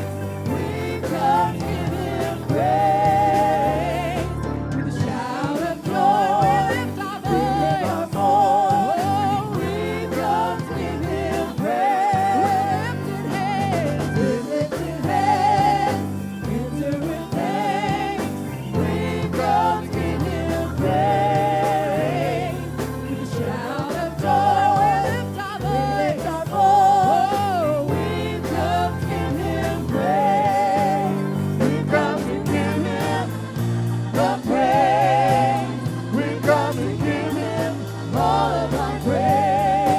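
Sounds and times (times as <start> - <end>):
low musical accompaniment: 0.0 - 39.9
voices singing gospel: 0.0 - 39.9.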